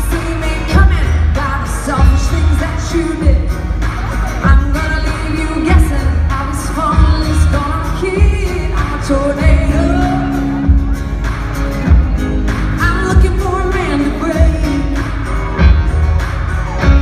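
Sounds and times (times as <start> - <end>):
person singing: 0.0 - 15.4.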